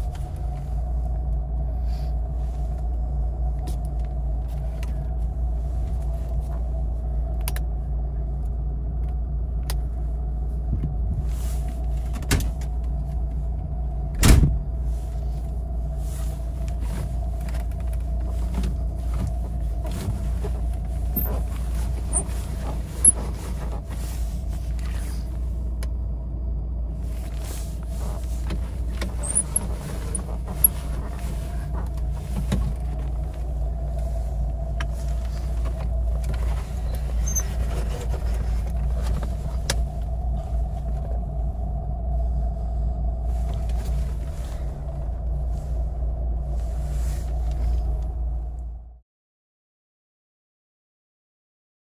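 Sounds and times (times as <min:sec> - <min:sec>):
car engine droning: 0:00.0 - 0:49.0.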